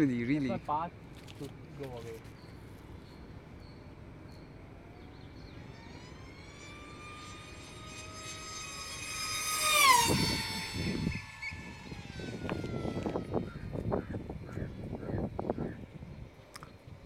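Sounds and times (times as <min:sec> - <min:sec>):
model jet motor whining flyby: 0:02.6 - 0:16.3.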